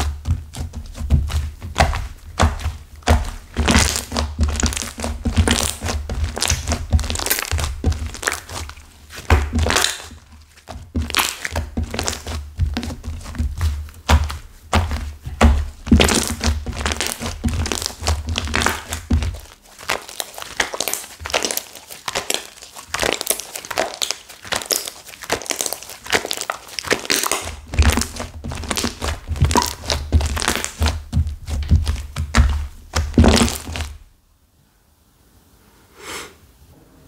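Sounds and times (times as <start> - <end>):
slime crackling and popping: 0.0 - 34.1.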